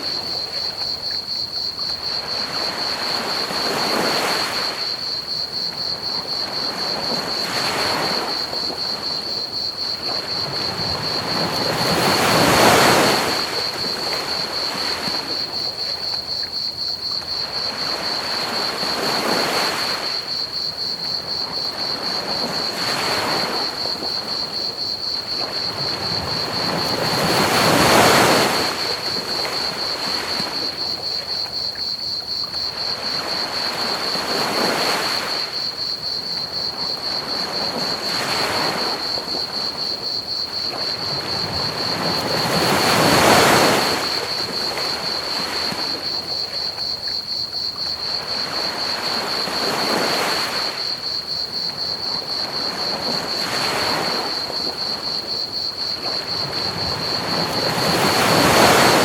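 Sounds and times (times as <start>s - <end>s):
cricket trill: 0.0s - 59.0s
ocean waves washing onto beach: 0.0s - 59.0s.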